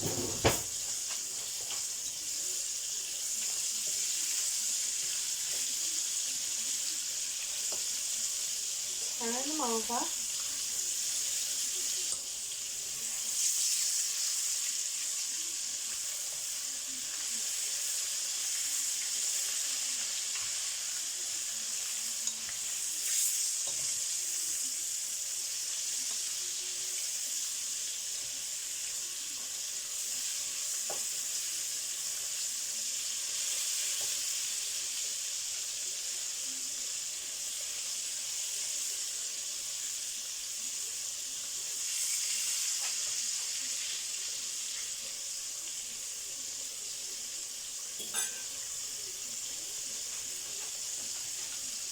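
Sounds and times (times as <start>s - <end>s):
chicken sizzling in a pan: 0.0s - 51.9s.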